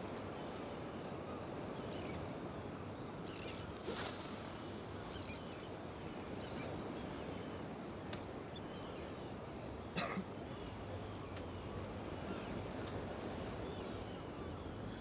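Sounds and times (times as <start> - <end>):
wind and water: 0.0 - 15.0.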